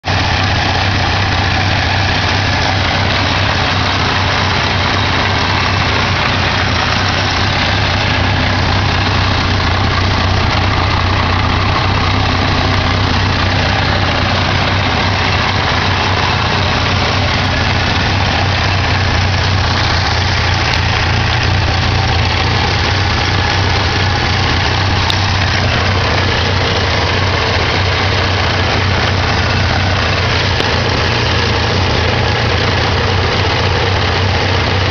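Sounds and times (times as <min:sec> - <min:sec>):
engine idling roughly: 0:00.0 - 0:34.9.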